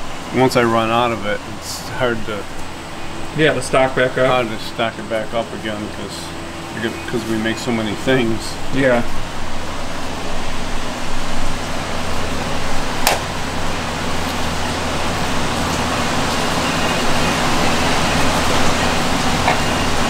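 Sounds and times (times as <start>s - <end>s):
machine rushing hiss and hum: 0.0s - 20.0s.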